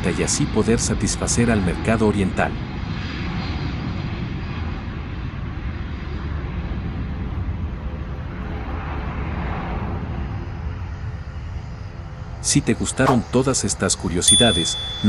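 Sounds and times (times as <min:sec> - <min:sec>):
jet engines rumbling: 0:01.7 - 0:14.3.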